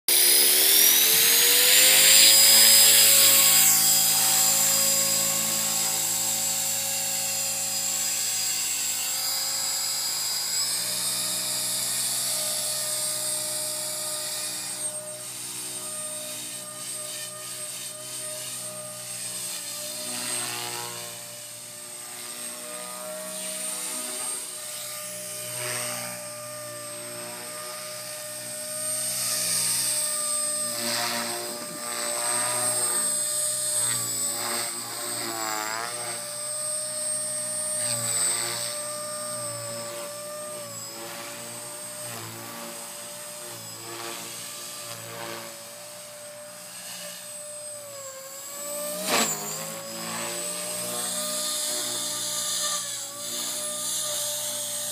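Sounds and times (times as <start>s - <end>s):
rc helicopter motor whine: 0.1s - 54.9s.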